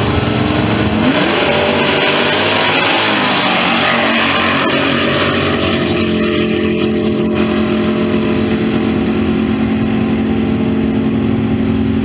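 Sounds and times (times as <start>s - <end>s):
drag car engines at full throttle: 0.0s - 12.0s.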